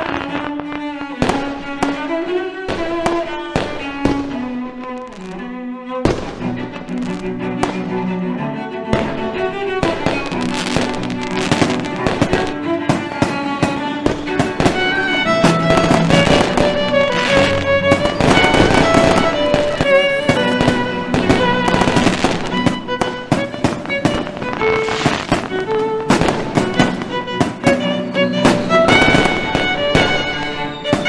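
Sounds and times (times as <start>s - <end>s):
fireworks bursting and crackling: 0.0s - 8.3s, 8.9s - 31.0s
music with bowed strings: 0.0s - 31.0s.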